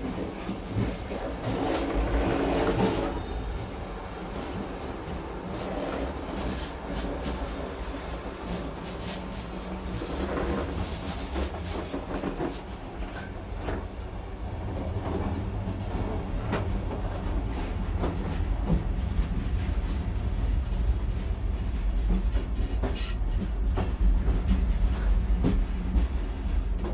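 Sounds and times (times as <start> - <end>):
train running gear rumble: 0.0 - 26.9.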